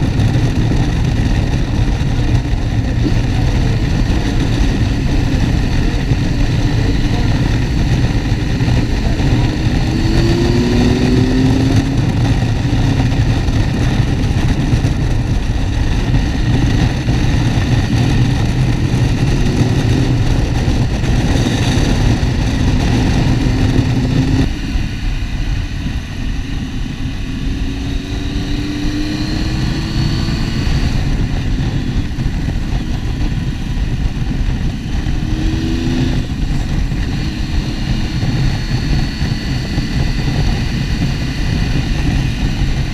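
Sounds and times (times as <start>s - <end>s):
motorcycle engine revving: 0.0s - 42.9s
wind rushing: 0.0s - 42.9s.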